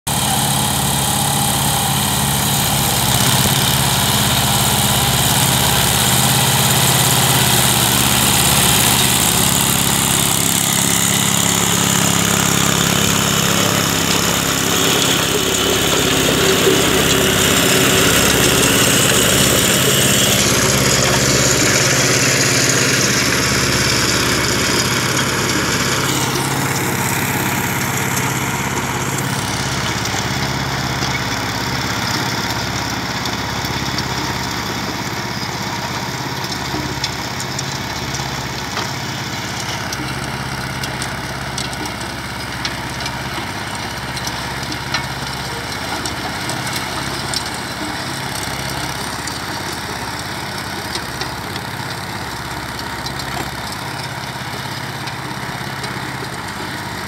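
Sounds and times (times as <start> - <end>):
rotary tillers in dry soil: 0.0 - 57.0
tractor engines under load: 0.0 - 57.0.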